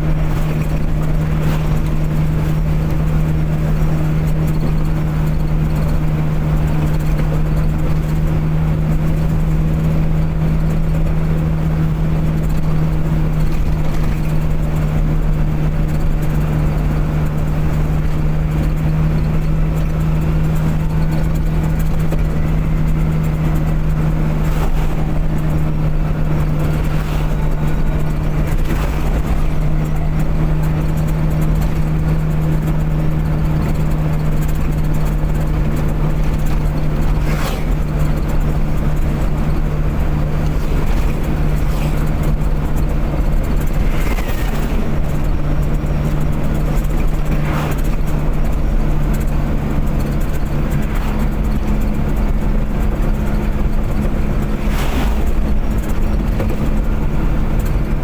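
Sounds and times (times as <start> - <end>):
road rumble: 0.0 - 58.0
vehicle engine hum: 0.0 - 58.0.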